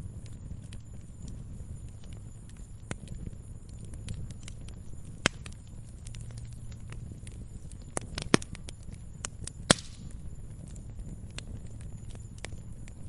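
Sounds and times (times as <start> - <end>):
campfire crackling: 0.0 - 13.0
sharp fire pops: 0.0 - 13.0.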